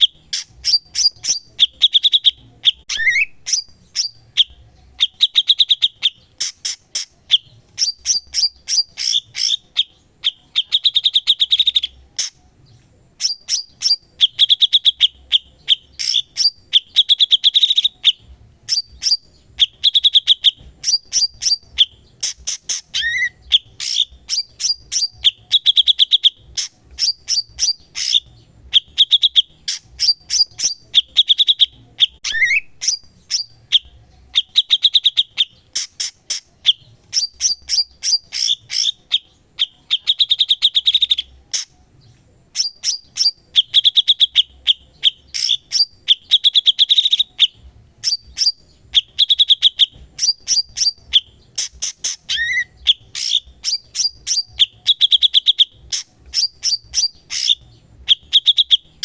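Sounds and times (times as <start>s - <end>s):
bird singing chattering phrases: 0.0s - 59.0s.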